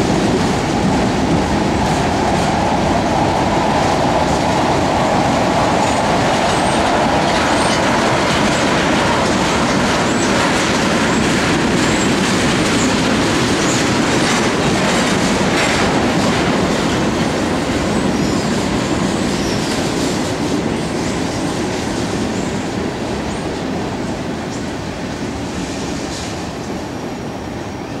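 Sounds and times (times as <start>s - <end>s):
freight train wheels rumbling on rails: 0.0s - 28.0s.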